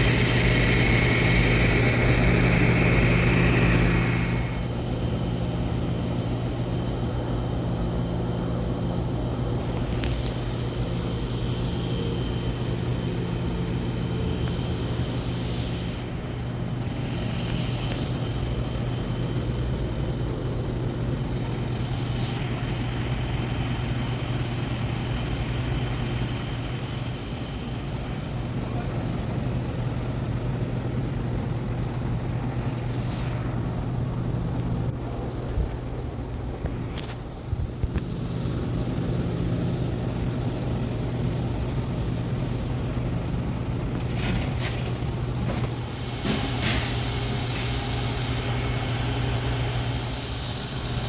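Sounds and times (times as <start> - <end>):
electrical hum: 0.0 - 51.0
welder arc crackling: 9.6 - 51.0.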